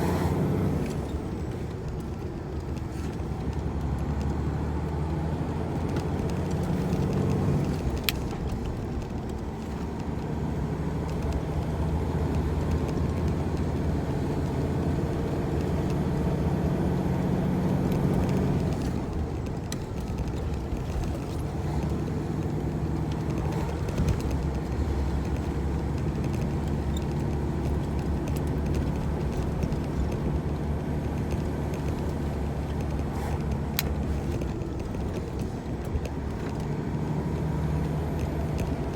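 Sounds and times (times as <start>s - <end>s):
truck diesel engine under load: 0.0s - 38.9s.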